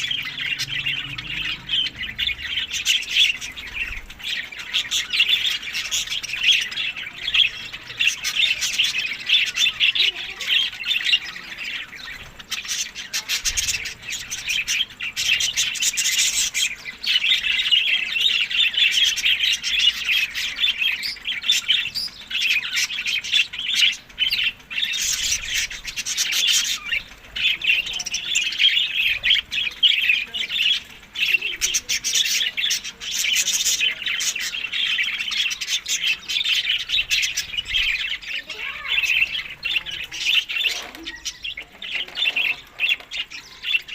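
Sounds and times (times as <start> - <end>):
budgerigars chattering and squawking: 0.0 - 43.9.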